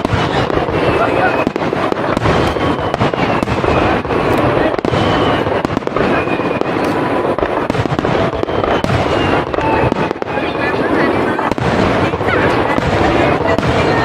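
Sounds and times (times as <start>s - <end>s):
fireworks bursting and crackling: 0.0s - 14.0s
thin whistling fireworks: 0.0s - 14.0s.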